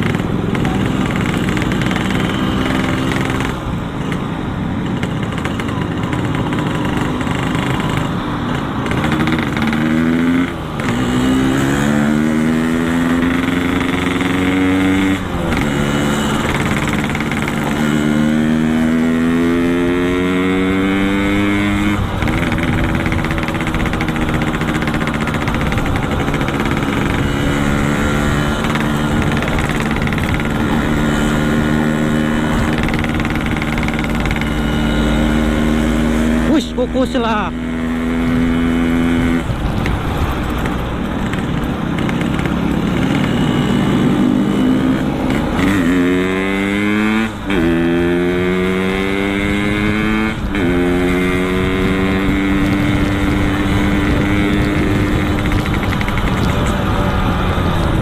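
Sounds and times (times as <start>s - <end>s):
two-stroke motorcycle engine: 0.0s - 58.0s.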